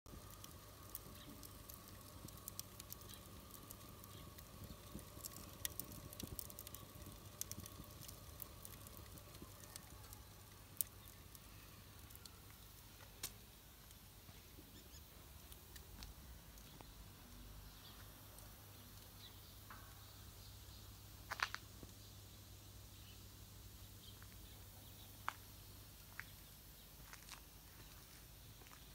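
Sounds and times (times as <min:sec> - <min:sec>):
firewood crackling: 0:00.1 - 0:28.9.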